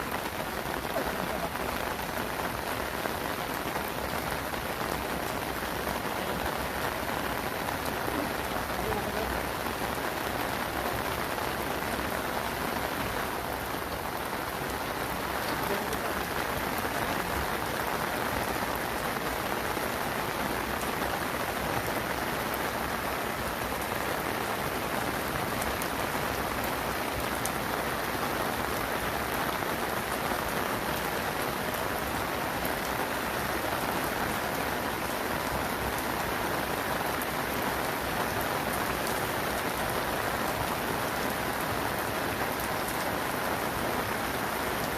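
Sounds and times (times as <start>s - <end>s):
heavy rain pattering: 0.0s - 44.9s.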